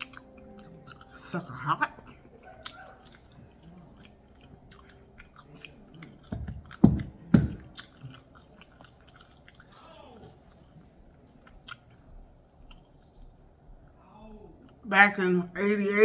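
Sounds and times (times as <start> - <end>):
wet chewing: 0.0 - 13.8.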